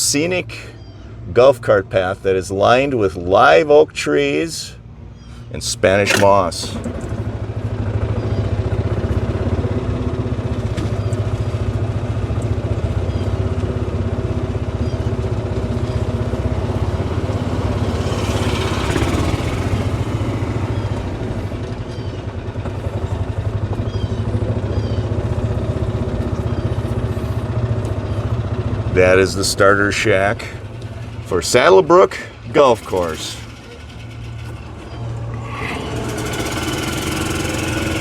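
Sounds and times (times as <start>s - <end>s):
electric cart motor humming: 5.9s - 38.0s.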